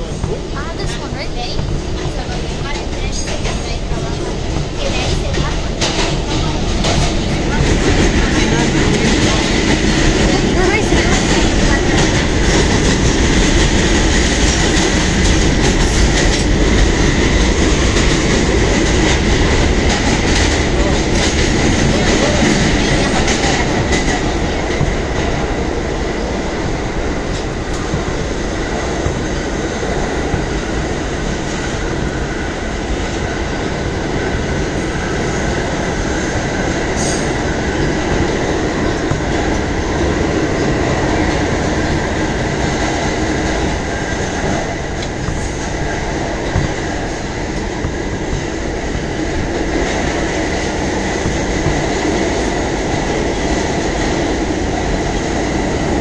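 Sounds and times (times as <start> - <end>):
subway wheels rumbling on rail: 0.0 - 56.0.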